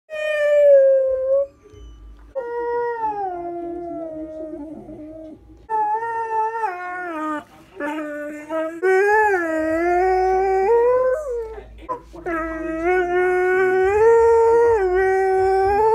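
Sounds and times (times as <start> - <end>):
dog howling: 2.4 - 11.6, 12.2 - 15.9.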